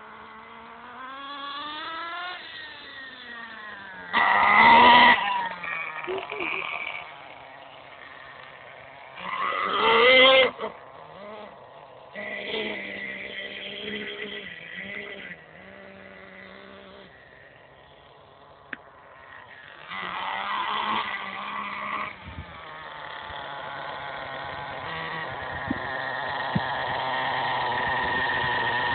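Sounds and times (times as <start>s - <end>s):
model truck nitro engine buzzing: 0.0s - 28.9s.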